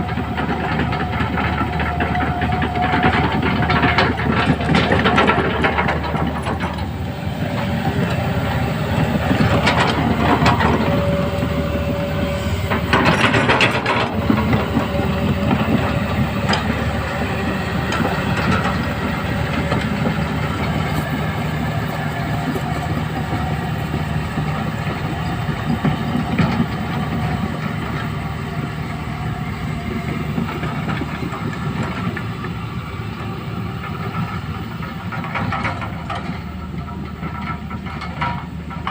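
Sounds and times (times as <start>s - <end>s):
excavator clatter: 0.0s - 38.9s
excavator diesel engine running: 0.0s - 38.9s.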